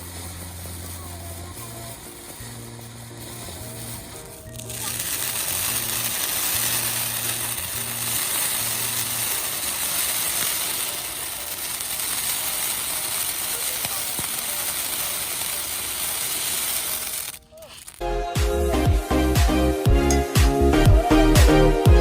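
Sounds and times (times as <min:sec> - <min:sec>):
spark firework hissing: 0:00.0 - 0:21.7.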